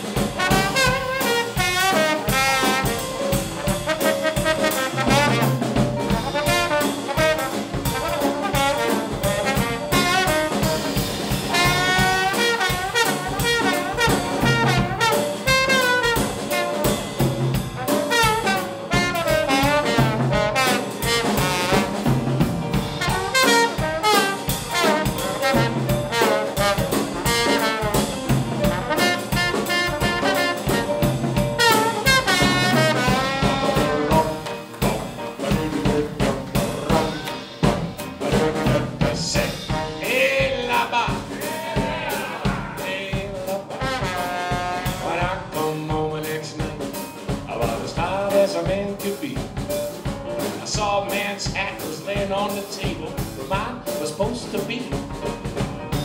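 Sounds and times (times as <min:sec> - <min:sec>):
drum kit with cymbals: 0:00.0 - 0:56.0
piano: 0:00.0 - 0:56.0
trombone playing melody: 0:00.0 - 0:56.0.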